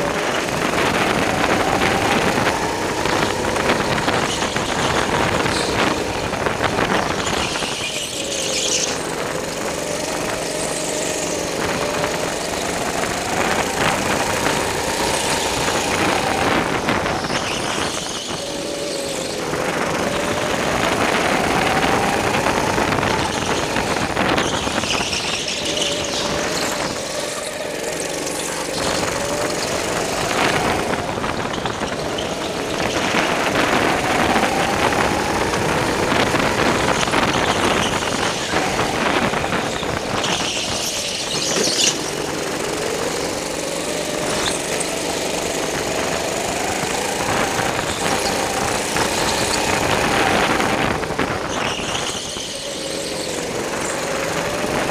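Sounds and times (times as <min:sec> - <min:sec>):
go-kart motor running: 0:00.0 - 0:54.9
tyre squeals: 0:00.0 - 0:54.9.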